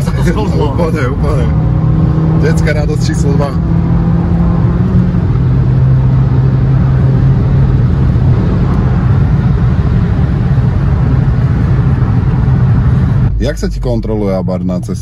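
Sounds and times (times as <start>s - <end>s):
tyre and road rumble: 0.0s - 14.1s
car engine running: 0.0s - 15.0s.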